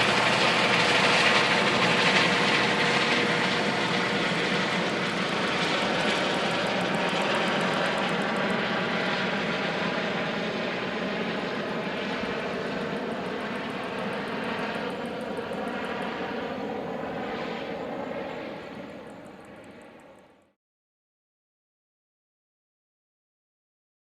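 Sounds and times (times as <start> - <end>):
helicopter rotor and engine: 0.0 - 20.6.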